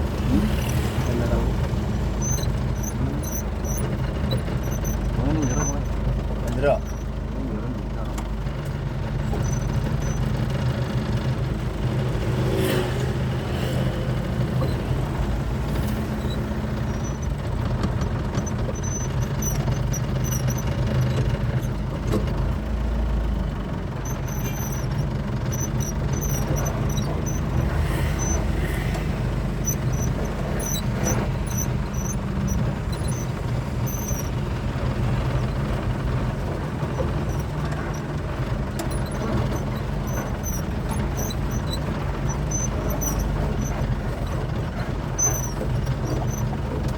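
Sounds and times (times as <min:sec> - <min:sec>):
truck diesel engine rumbling: 0:00.0 - 0:46.9
short high squeaks: 0:00.1 - 0:07.2, 0:09.2 - 0:10.6, 0:13.6 - 0:22.3, 0:23.6 - 0:46.9.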